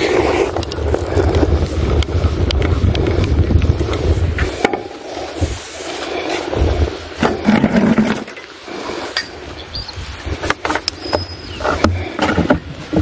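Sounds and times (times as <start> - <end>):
wind buffeting microphone: 0.0 - 8.2, 9.3 - 13.0.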